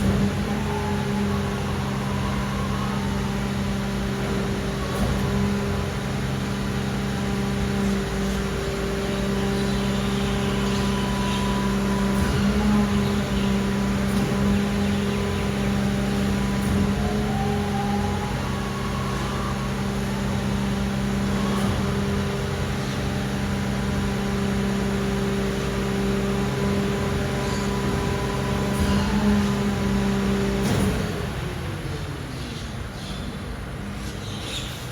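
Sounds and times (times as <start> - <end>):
diesel truck engine humming: 0.0 - 34.0.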